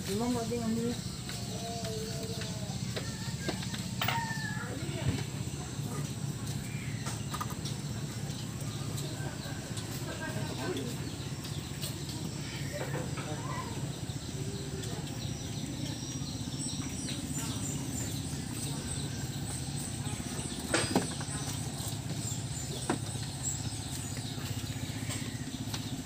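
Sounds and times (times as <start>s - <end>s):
birds chirping: 0.0s - 26.0s
small engine idling: 0.0s - 26.0s.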